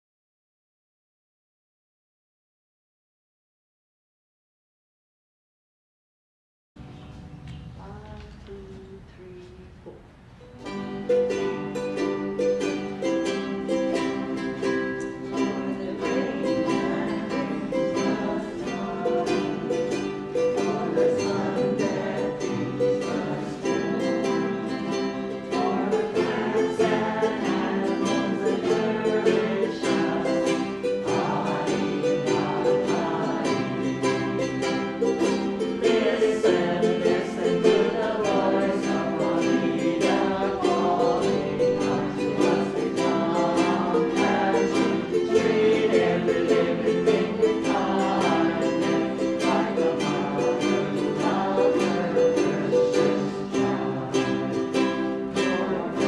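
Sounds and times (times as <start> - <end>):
ukulele music: 6.8 - 56.0.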